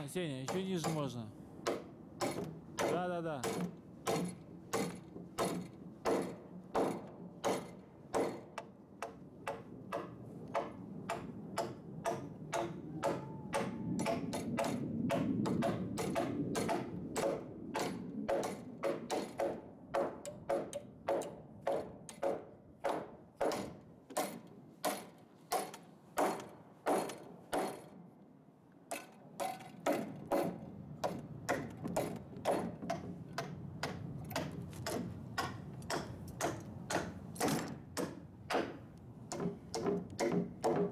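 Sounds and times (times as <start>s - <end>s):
hammer driving nails into wood: 1.6s - 28.0s, 28.9s - 40.9s.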